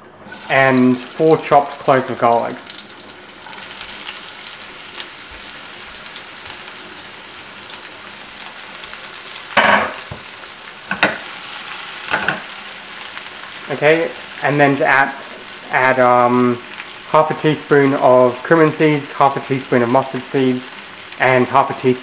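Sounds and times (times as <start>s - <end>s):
onion sizzling in frying pan: 0.3s - 22.0s.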